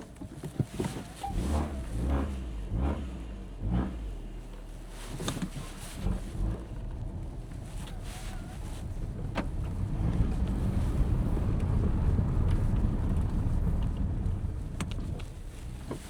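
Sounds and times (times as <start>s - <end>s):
road and tyre noise: 0.0s - 16.0s
wind: 0.0s - 16.0s.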